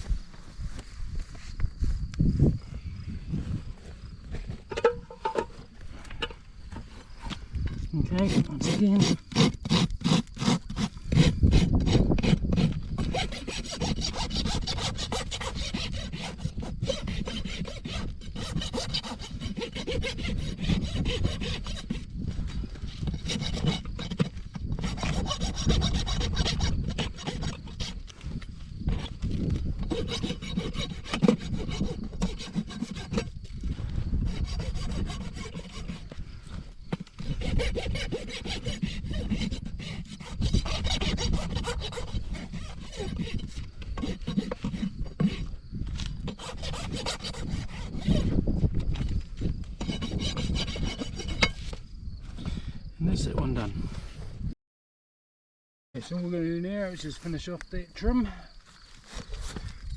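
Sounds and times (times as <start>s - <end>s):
hoof rasp scraping: 3.3s - 52.6s, 58.8s - 59.9s.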